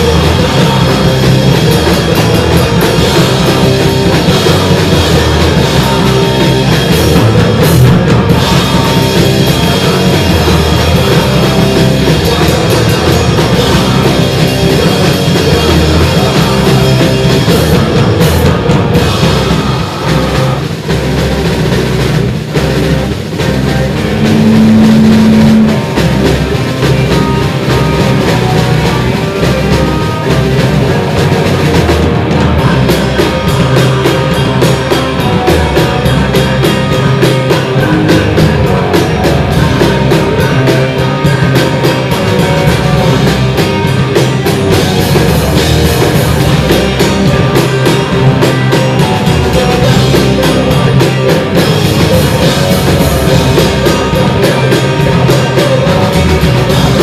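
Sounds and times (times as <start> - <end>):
bass guitar: 0.0 - 57.0
distorted guitar: 0.0 - 57.0
drum kit: 0.0 - 57.0.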